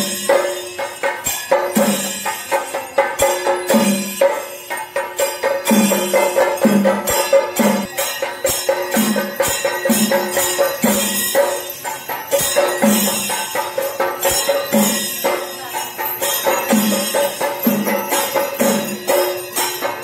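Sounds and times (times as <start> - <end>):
cymbals clashing: 0.0 - 20.0
drums beating steady rhythm: 0.0 - 20.0
steady pitched ring: 0.0 - 20.0.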